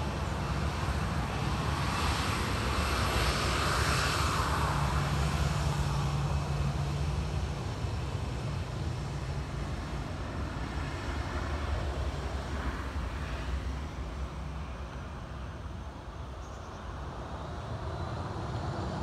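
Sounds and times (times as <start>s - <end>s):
faint high engine whine: 0.0s - 19.0s
jet engines low rumble: 0.0s - 19.0s.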